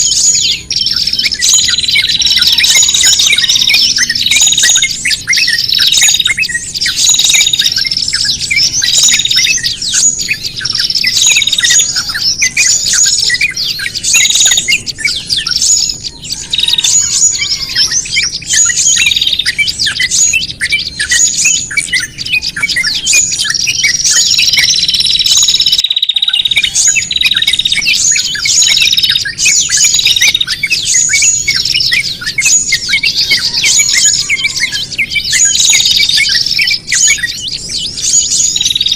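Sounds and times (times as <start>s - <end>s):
bird trill: 0.0s - 38.9s
small songbirds chirping: 0.0s - 38.9s.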